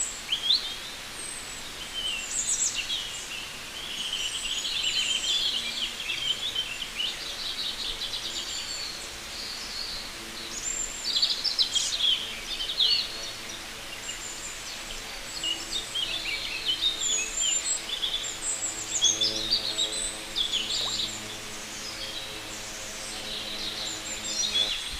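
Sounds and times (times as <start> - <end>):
birds singing and chirping: 0.0 - 24.9
steady background hiss: 0.0 - 24.9.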